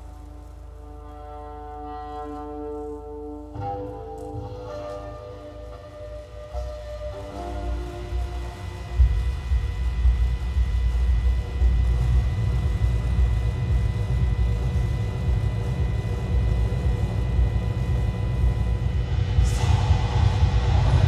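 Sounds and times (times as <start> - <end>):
deep low electronic drone: 0.0 - 21.0.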